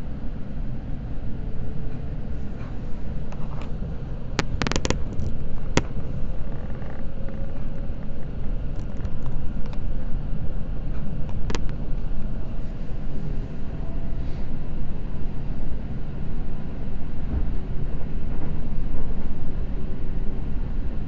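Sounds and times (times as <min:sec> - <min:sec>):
train running low rumble: 0:00.0 - 0:21.0.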